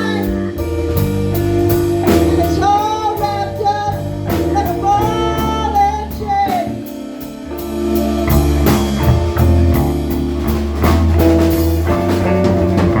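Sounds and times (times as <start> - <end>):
blues band playing: 0.0 - 13.0.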